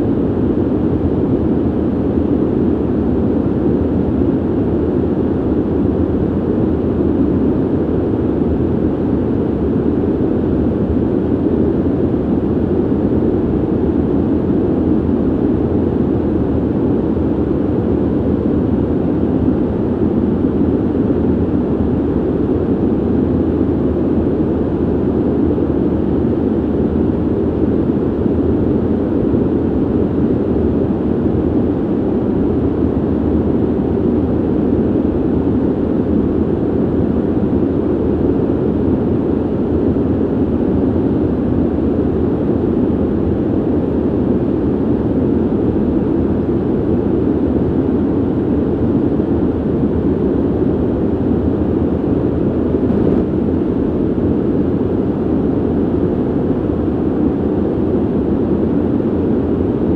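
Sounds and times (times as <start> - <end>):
ventilation air rushing: 0.0 - 59.9.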